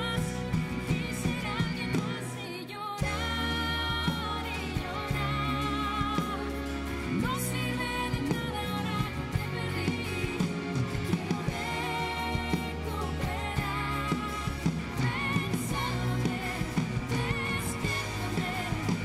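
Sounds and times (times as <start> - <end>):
steady drum beat: 0.0 - 2.3, 3.0 - 19.0
bass: 0.0 - 19.0
woman singing: 0.0 - 19.0.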